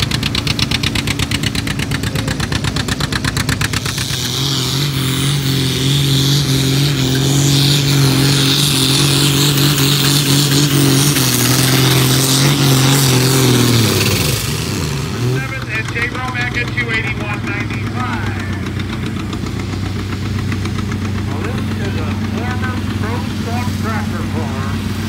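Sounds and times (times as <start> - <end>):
tractor engine chugging: 0.0 - 25.0.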